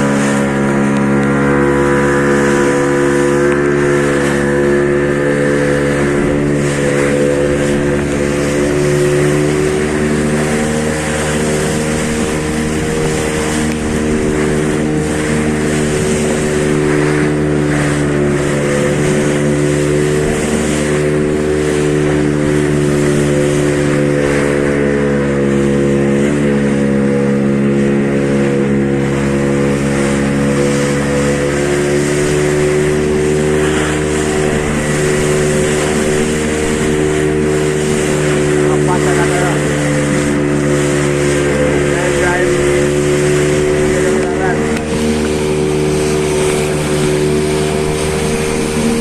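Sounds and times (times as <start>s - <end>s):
boat engine running: 0.0s - 49.0s
wind and water rushing: 0.0s - 49.0s.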